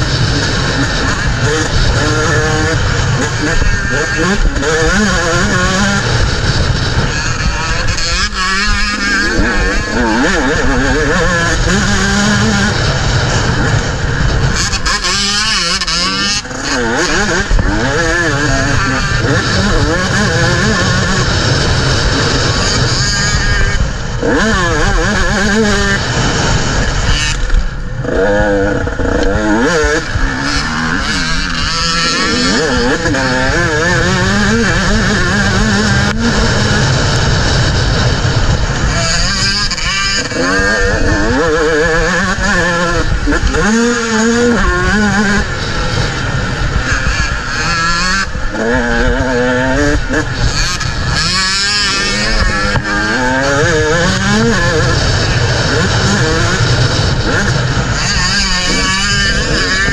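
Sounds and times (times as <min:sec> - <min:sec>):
motorbike engine revving: 0:00.0 - 0:59.9
wind rushing on microphone: 0:00.0 - 0:59.9.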